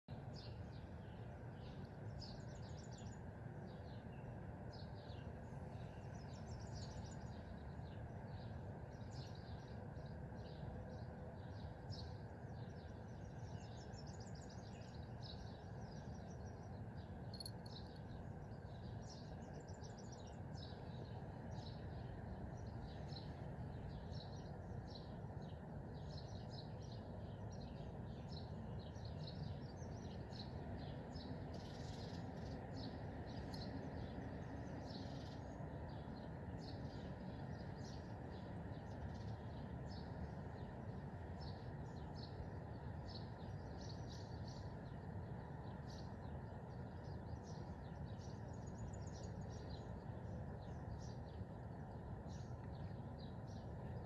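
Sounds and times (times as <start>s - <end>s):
low background rumble: 0.0s - 54.0s
small birds chirping: 0.1s - 54.0s.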